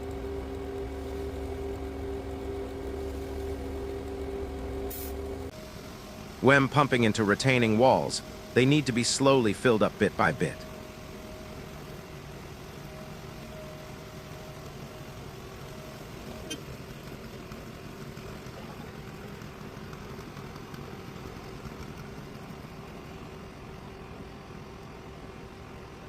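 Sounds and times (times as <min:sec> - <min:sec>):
concrete pump engine running: 0:00.0 - 0:26.0.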